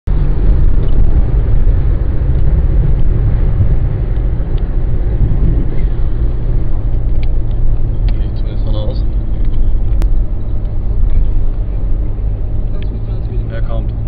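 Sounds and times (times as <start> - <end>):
car engine rumble: 0.0 - 14.0
road noise: 0.0 - 14.0
wind noise: 0.1 - 14.0.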